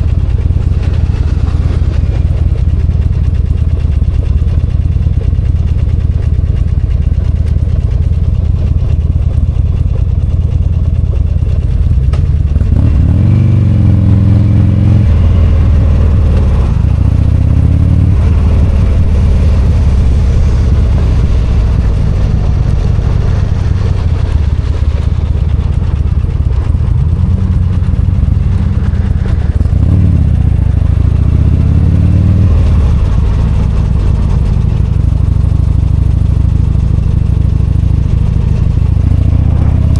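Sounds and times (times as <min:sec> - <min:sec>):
motorcycle engine revving: 0:00.0 - 0:39.9
road and wind noise: 0:00.0 - 0:39.9.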